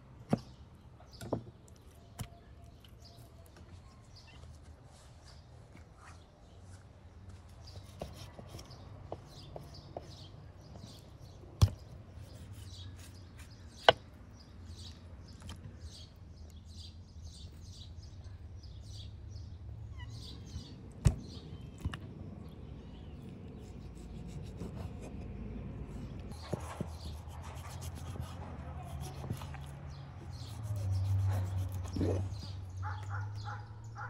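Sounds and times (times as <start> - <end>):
small birds chirping: 0.3 - 34.0.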